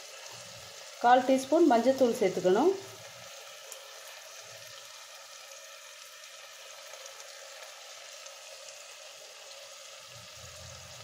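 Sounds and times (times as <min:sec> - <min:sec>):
onions and tomatoes sizzling in oil: 0:00.0 - 0:11.0.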